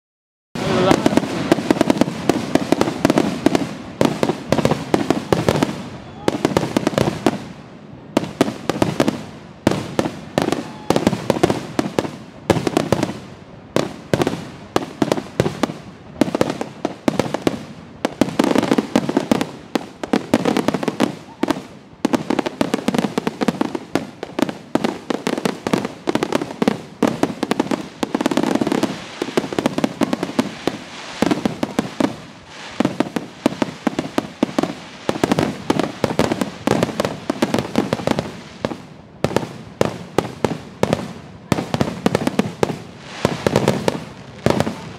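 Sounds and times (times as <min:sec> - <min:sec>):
fireworks bursting: 0:00.6 - 0:44.9
fireworks crackle: 0:00.6 - 0:44.9.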